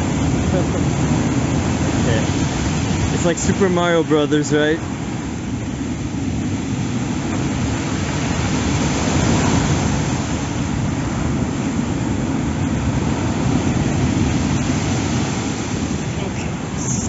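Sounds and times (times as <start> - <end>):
waves surging and breaking: 0.0 - 17.0
wind: 0.0 - 17.0.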